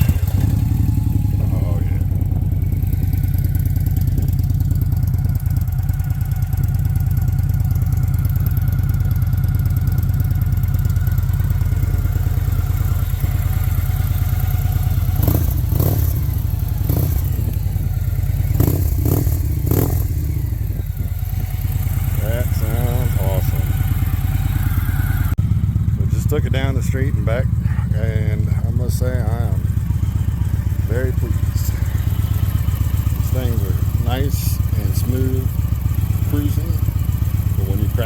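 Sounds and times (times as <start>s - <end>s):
engine revving blips: 0.0s - 5.1s, 9.6s - 38.0s
motorcycle engine idling: 0.0s - 38.0s.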